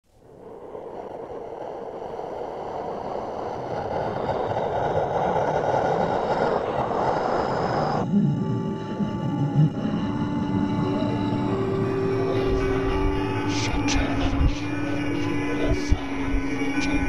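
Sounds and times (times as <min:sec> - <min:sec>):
rumbling noise: 0:00.0 - 0:17.0
eerie held musical tones: 0:00.2 - 0:17.0.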